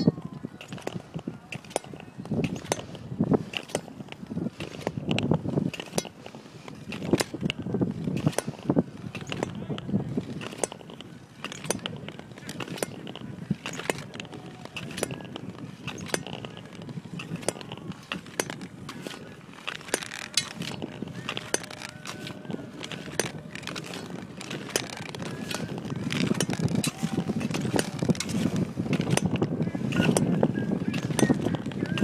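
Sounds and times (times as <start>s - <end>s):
skate blades clicking and scraping: 0.4s - 32.0s.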